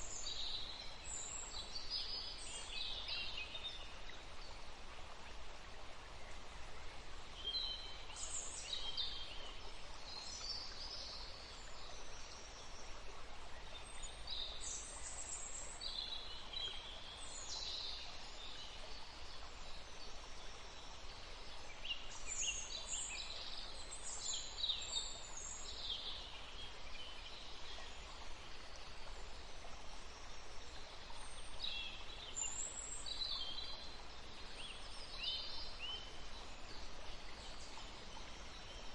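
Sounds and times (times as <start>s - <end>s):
steady background hiss: 0.0s - 38.9s.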